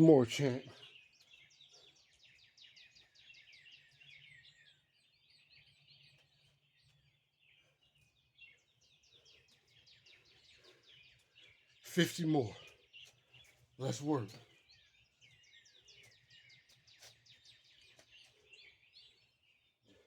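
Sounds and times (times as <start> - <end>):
birds chirping and twittering: 0.0 - 20.0.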